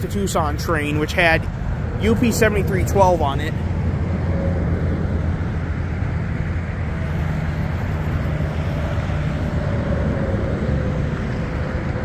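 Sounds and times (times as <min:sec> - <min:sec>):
distant diesel locomotives rumbling: 0:00.0 - 0:12.0.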